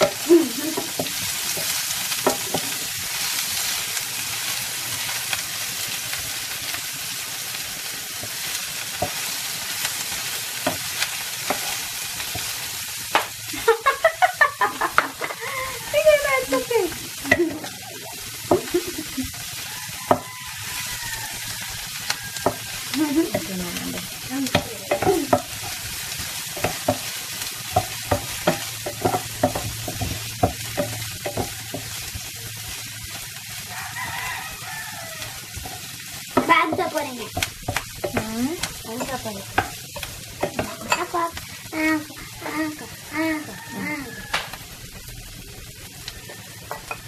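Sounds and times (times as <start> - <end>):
onion sizzling in a frying pan: 0.0 - 47.0.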